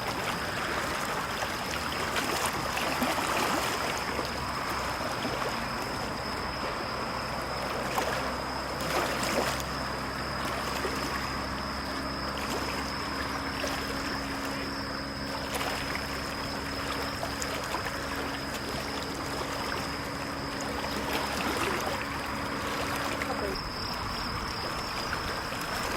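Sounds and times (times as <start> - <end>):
water splashes: 0.0 - 25.9
waves lapping at shore: 0.0 - 25.9.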